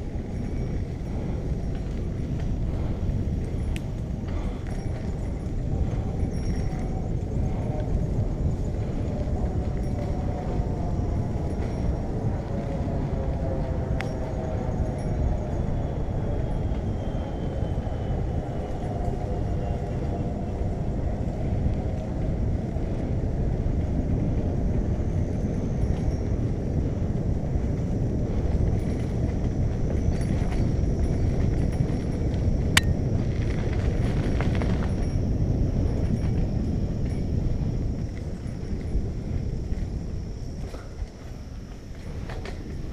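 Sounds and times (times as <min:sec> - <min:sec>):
bicycle road rumble: 0:00.0 - 0:42.9
wind rush: 0:00.0 - 0:42.9.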